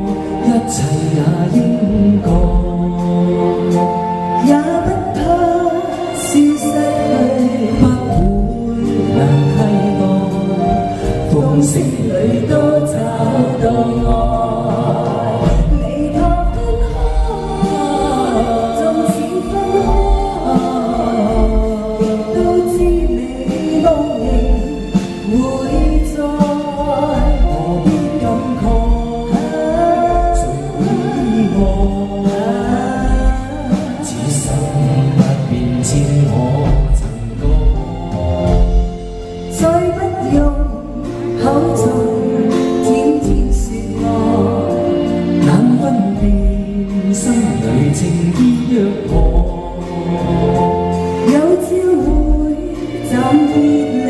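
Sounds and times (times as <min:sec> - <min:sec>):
man and woman singing duet: 0:00.0 - 0:54.0.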